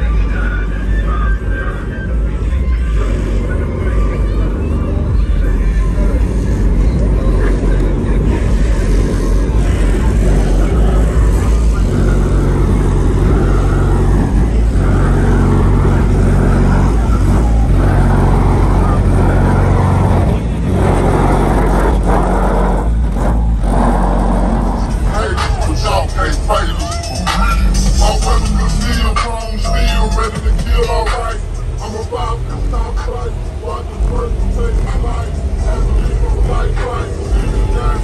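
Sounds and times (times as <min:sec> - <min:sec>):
car engine running: 0:00.0 - 0:38.0
road and wind noise: 0:00.0 - 0:38.0.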